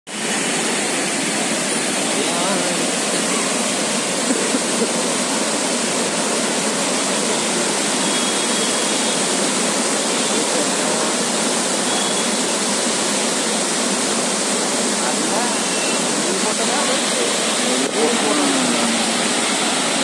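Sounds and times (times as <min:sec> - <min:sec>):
floodwater rushing: 0:00.1 - 0:20.0.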